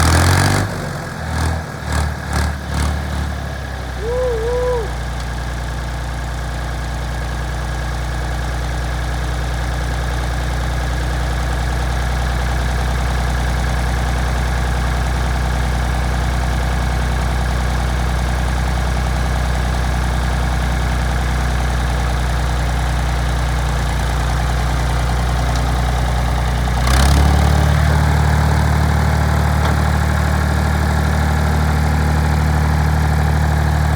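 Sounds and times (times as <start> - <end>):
tractor engine idling: 1.6 - 33.9.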